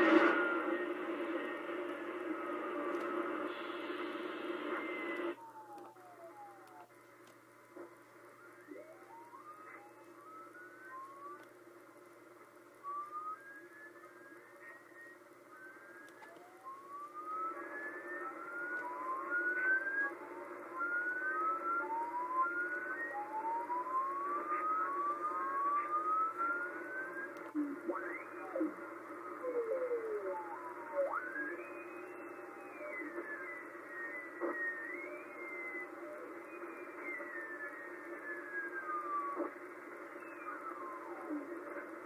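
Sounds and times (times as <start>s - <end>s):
radio receiver hiss: 0.0s - 42.0s
steady hum: 0.0s - 42.0s.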